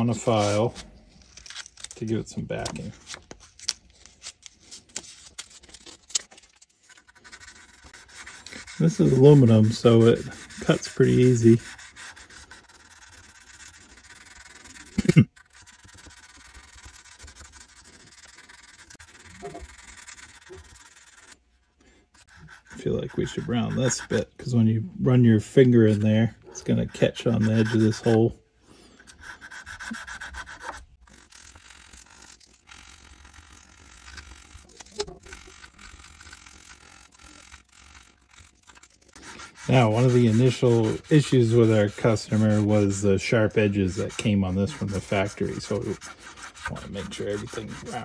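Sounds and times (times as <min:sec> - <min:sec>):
sandpaper rubbing on aluminium: 0:06.8 - 0:21.4, 0:22.2 - 0:24.6, 0:25.2 - 0:28.3, 0:29.0 - 0:48.0.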